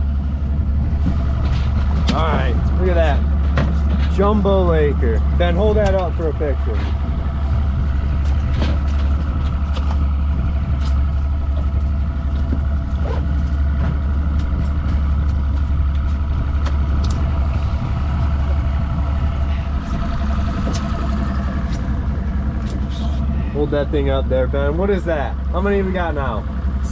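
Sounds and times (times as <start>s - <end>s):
outboard motor droning: 0.0s - 26.9s.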